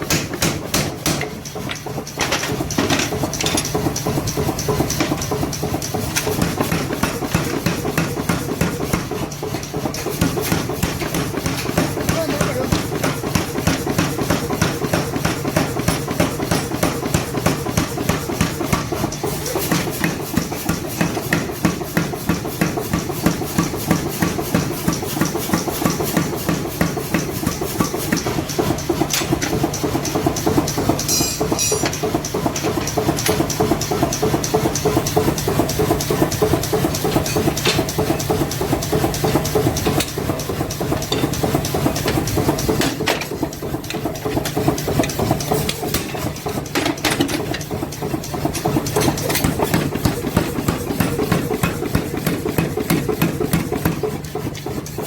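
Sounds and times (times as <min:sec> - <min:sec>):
power hammer striking steel: 0:00.0 - 0:33.7, 0:40.9 - 0:55.0.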